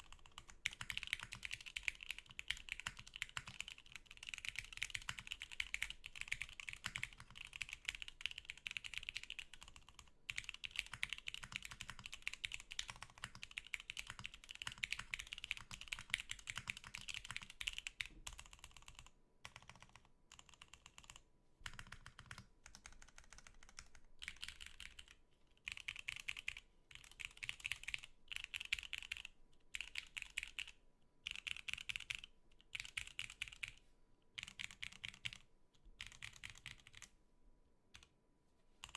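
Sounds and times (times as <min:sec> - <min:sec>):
mechanical keyboard typing: 0:00.0 - 0:33.8, 0:34.4 - 0:37.1.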